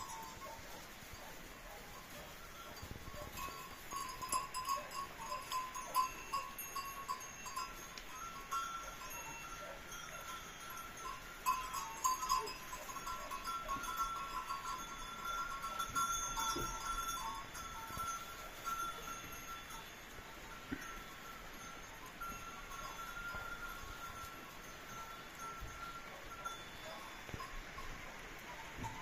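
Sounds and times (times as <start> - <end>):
goats rustling in straw: 0.0 - 28.9
chime-like ringing tones: 0.0 - 29.0.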